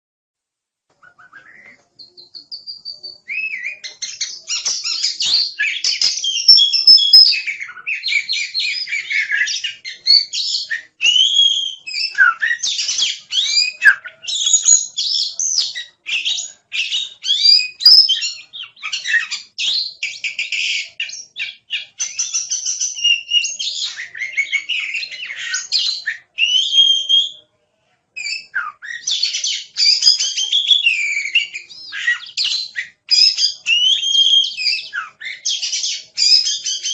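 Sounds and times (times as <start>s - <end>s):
bird singing whistles and chatter: 1.0s - 27.4s, 28.2s - 36.9s.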